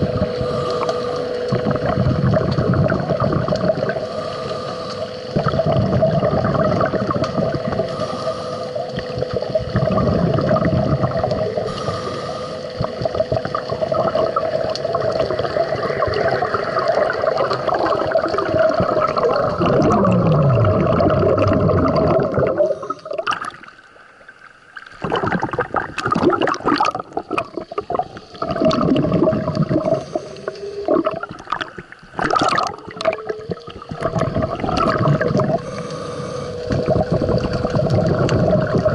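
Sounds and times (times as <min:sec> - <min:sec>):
steady hum: 0:00.0 - 0:38.9
underwater bubbling and gurgling: 0:00.0 - 0:38.9.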